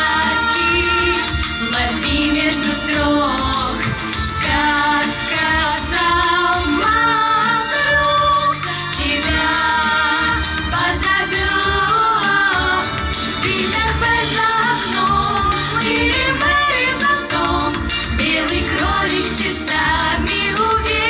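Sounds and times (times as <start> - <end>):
backing track with steady beat: 0.0 - 21.0
children singing pop song: 0.0 - 21.0.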